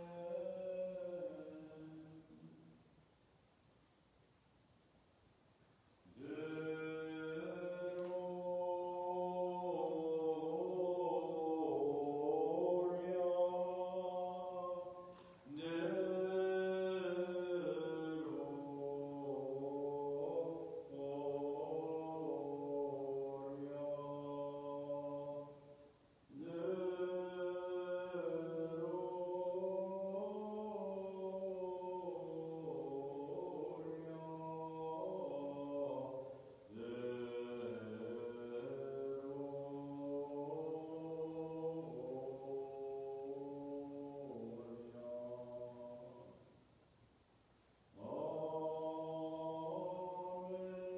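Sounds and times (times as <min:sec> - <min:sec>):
liturgical chant singing: 0:00.0 - 0:02.8, 0:06.0 - 0:46.6, 0:47.9 - 0:50.9.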